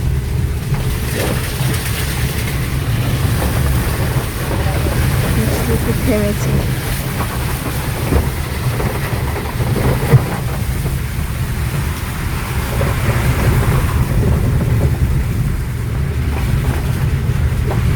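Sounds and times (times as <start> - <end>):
car engine and tyre rumble: 0.0 - 17.9.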